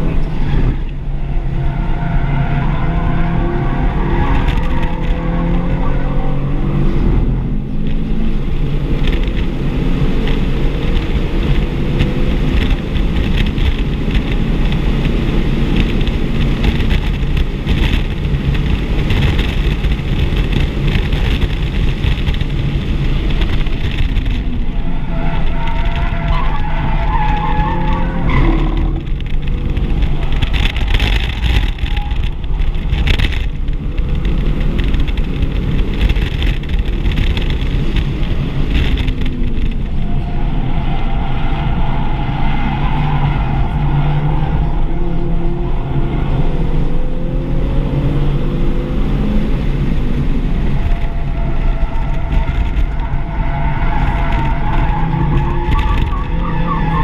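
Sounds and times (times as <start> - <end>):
car engine accelerating: 0.0 - 57.0
wind and road noise: 0.0 - 57.0.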